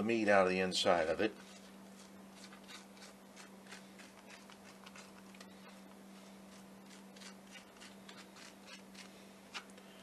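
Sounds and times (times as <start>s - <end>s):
faint steady hum: 0.0s - 10.0s
fork scraping squash: 1.3s - 9.7s.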